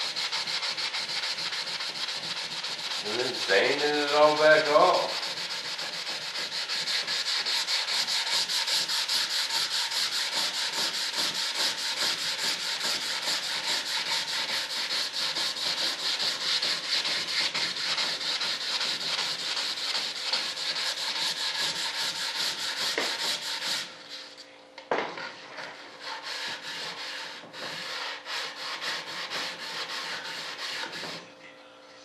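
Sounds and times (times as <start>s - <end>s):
sandpaper rubbing: 0.0s - 24.3s, 25.8s - 31.2s.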